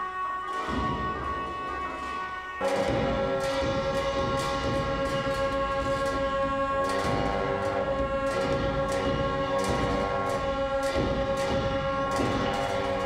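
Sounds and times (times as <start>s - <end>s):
percussion strikes: 0.0s - 13.0s.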